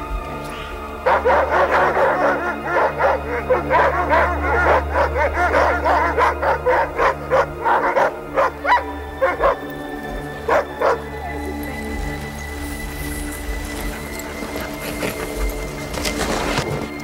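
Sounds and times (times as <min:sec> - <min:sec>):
sled dogs barking and yelping: 0:00.0 - 0:17.0.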